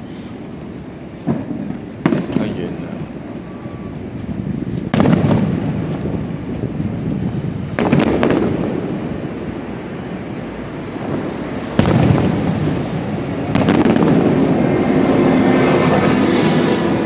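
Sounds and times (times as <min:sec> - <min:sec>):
distant fireworks booming: 0:00.0 - 0:17.0
fireworks crackling: 0:00.0 - 0:17.0.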